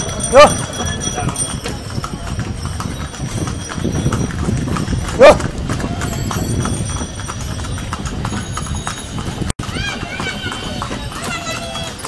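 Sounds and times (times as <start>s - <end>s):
horse hooves clip-clopping on pavement: 0.0s - 12.0s
traffic noise: 0.0s - 12.0s.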